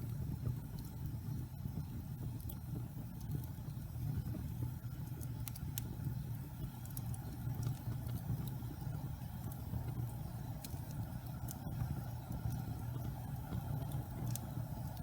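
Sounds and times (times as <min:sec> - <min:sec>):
logs crackling in fireplace: 0:00.0 - 0:15.0.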